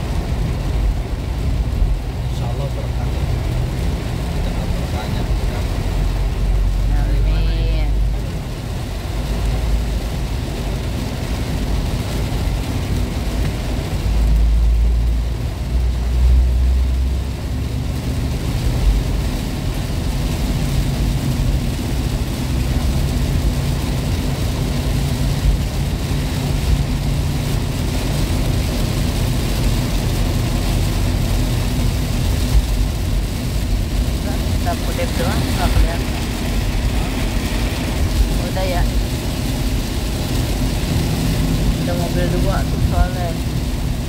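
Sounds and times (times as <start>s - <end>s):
car engine rumble: 0.0s - 44.0s
rain on car body: 0.0s - 44.0s
tyres hissing on flooded road: 0.0s - 44.0s.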